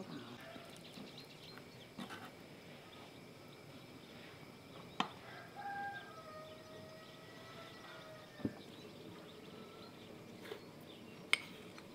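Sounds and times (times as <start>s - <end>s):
faint farmyard animals: 0.0s - 11.8s.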